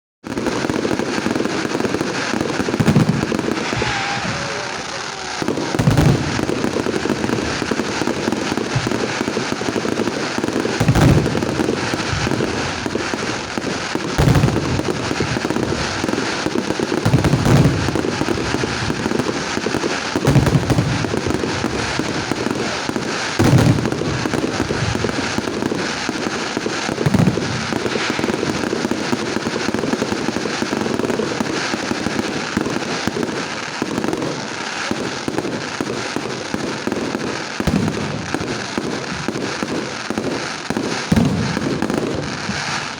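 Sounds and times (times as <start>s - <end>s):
crackle of bursting fireworks: 0.2s - 42.9s
firework shells booming: 0.2s - 42.9s.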